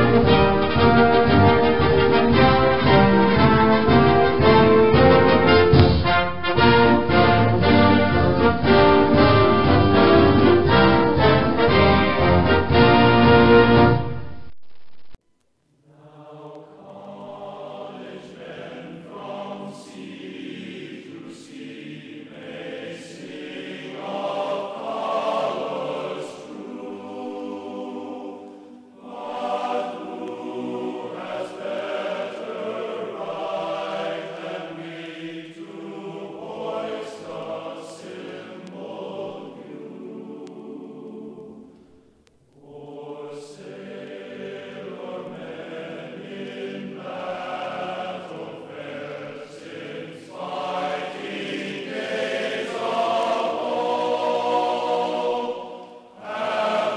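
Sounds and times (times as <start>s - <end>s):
choir singing sustained chords: 0.0s - 14.3s, 15.8s - 56.9s.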